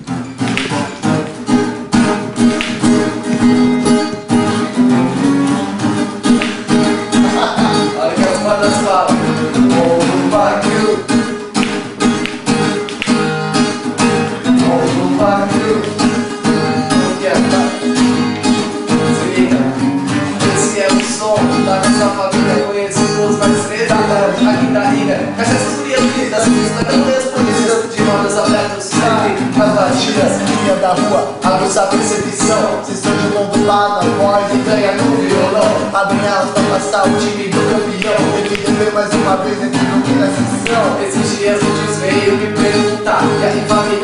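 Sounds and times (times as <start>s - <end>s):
acoustic guitar music: 0.0s - 44.0s
person singing: 6.2s - 13.1s, 13.7s - 44.0s.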